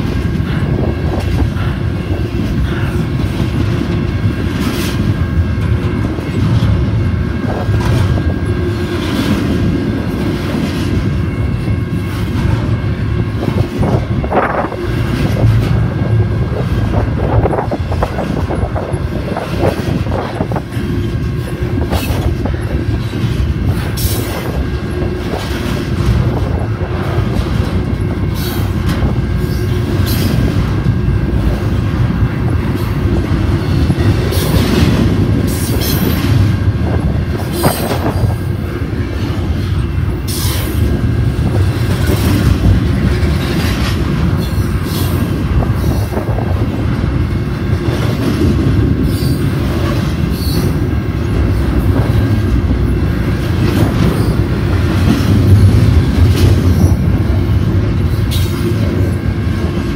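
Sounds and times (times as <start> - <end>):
steel wheels rumbling on rail: 0.0 - 59.9
wheels clacking over rail joints: 0.0 - 59.9.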